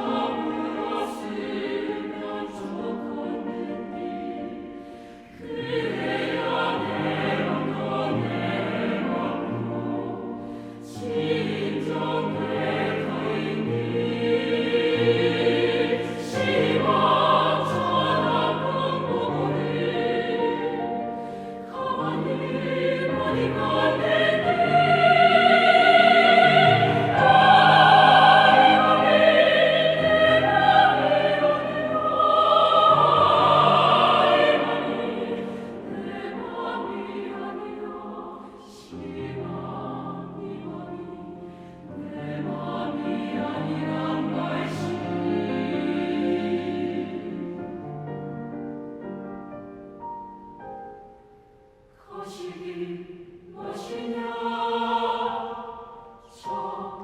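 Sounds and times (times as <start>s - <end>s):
piano accompaniment: 0.0s - 38.1s, 39.0s - 51.7s
choir singing: 0.0s - 49.2s, 52.0s - 57.0s.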